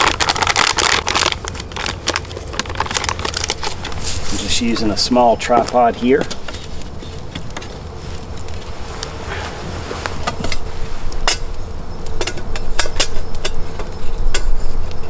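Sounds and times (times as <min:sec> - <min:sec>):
campfire crackling and popping: 0:00.0 - 0:15.0
insect buzz: 0:00.0 - 0:15.0.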